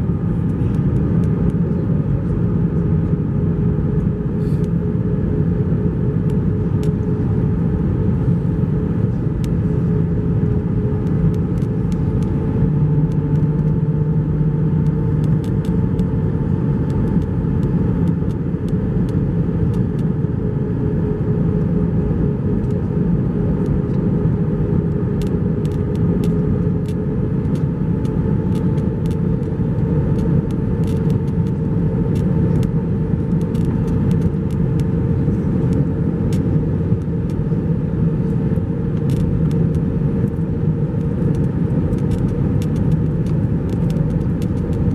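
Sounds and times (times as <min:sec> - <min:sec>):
engine and airflow noise in cabin: 0:00.0 - 0:44.9
low hum: 0:00.0 - 0:44.9.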